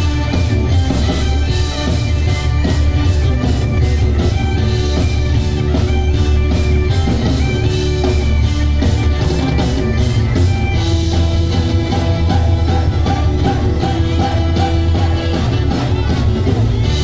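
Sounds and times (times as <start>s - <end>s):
acoustic guitar: 0.0s - 17.0s
bagpipes: 0.0s - 17.0s
fiddle: 0.0s - 17.0s
steady drum beat: 0.0s - 17.0s.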